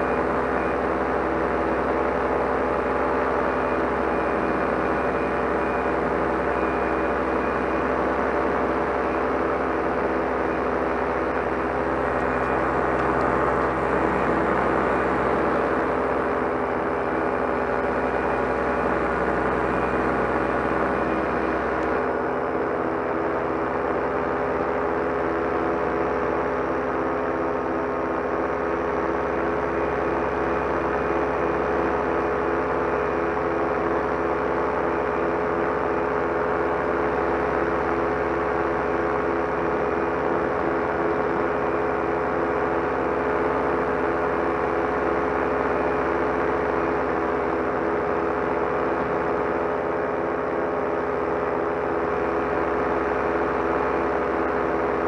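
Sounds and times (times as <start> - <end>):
paramotor engine drone: 0.0 - 55.0.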